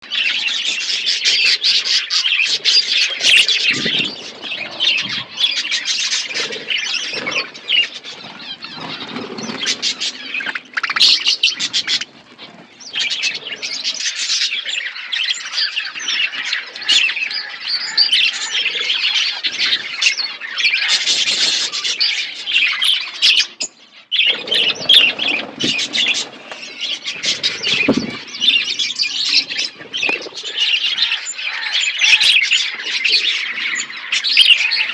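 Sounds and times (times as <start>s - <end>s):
budgies chirping: 0.0s - 34.9s.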